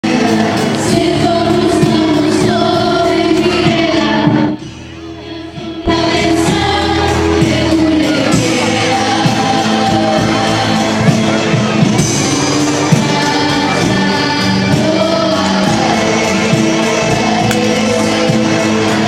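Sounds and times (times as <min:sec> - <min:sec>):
music with group singing: 0:00.0 - 0:19.0.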